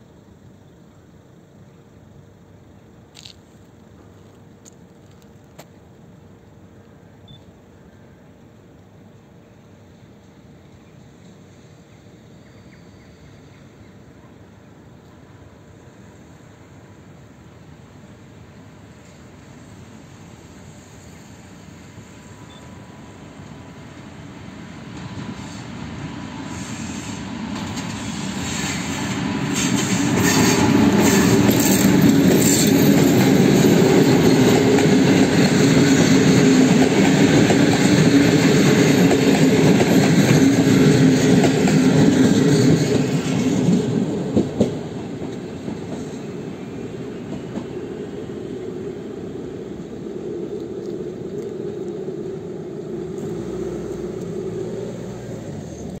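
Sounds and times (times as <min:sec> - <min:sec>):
diesel locomotive engine: 0:00.0 - 0:56.0
distant train rumble: 0:00.0 - 0:56.0
train wheels on rails: 0:03.0 - 0:07.4, 0:08.4 - 0:56.0.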